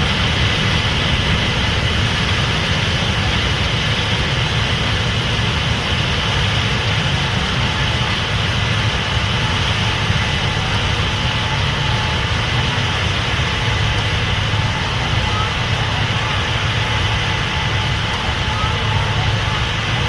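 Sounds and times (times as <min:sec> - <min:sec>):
combine engine drone: 0:00.0 - 0:20.0
machine hum: 0:00.0 - 0:20.0.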